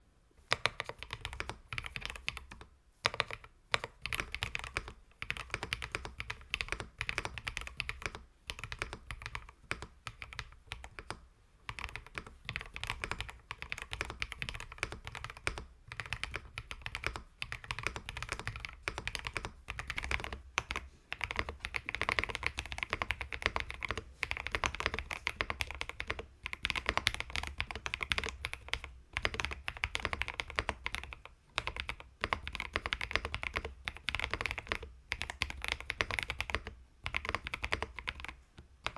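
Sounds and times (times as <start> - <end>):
mechanical keyboard typing: 0.5 - 38.9.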